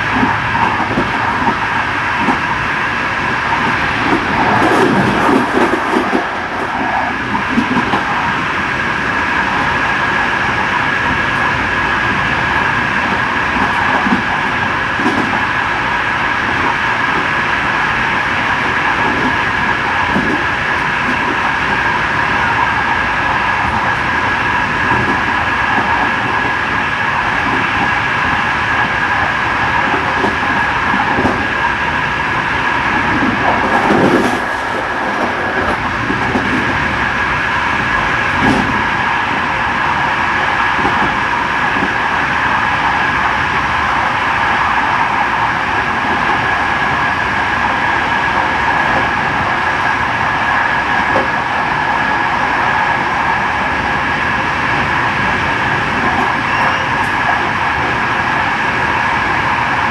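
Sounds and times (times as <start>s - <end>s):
train rumble with high whine: 0.0s - 59.9s.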